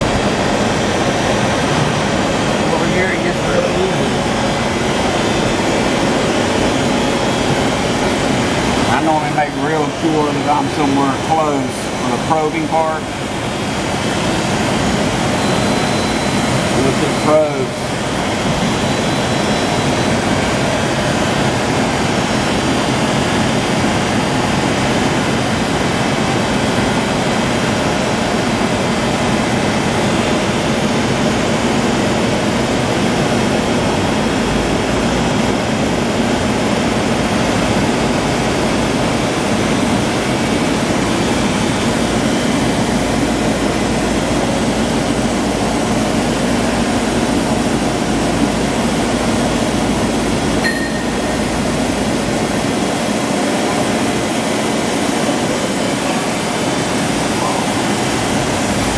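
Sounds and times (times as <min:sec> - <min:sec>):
grinding machine whirring: 0:00.0 - 0:58.9.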